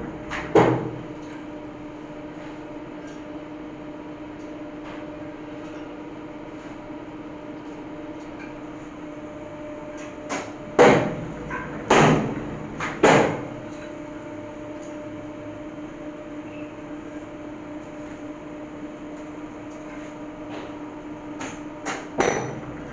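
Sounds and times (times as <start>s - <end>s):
industrial press humming: 0.0s - 3.2s, 3.8s - 22.9s.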